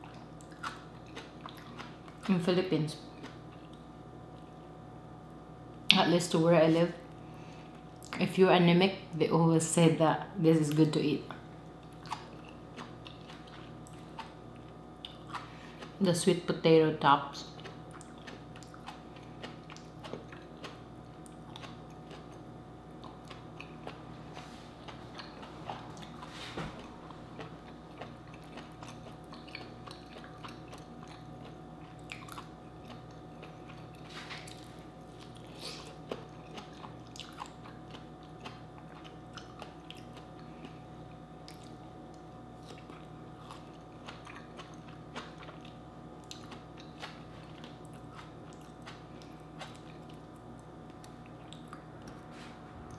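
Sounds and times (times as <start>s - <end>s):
person chewing crunchy vegetables: 0.0s - 4.6s, 11.5s - 16.3s, 17.2s - 52.9s.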